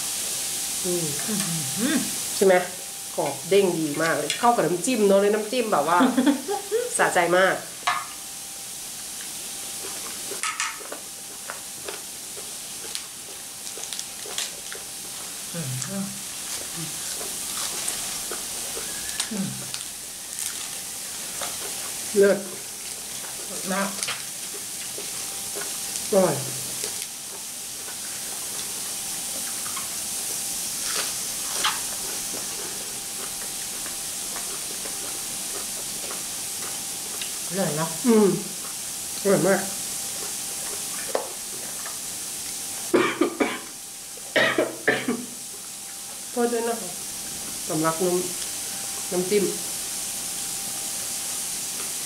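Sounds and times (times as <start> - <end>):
squid sizzling on a grill: 0.0 - 52.0.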